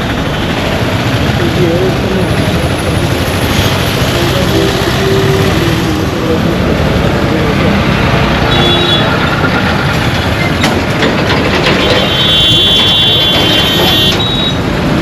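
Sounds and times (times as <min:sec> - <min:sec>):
dense rushing brown noise: 0:00.0 - 0:14.0, 0:14.6 - 0:15.0.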